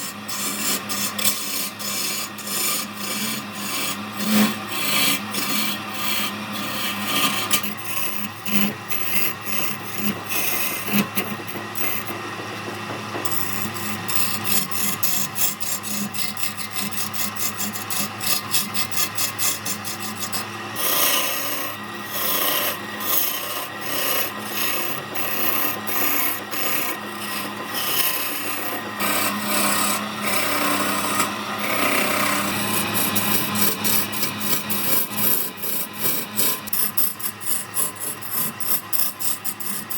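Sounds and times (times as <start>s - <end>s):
tool scraping spinning wood: 0.0s - 39.9s
wood lathe humming: 0.0s - 39.9s.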